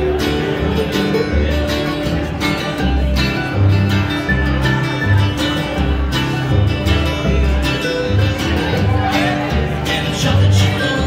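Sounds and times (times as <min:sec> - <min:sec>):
strummed acoustic guitar: 0:00.0 - 0:11.0
ukulele: 0:00.0 - 0:11.0
upright bass plucked: 0:00.0 - 0:11.0.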